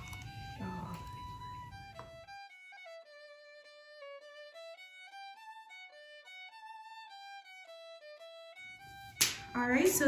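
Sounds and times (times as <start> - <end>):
solo fiddle melody: 0.3 - 9.2.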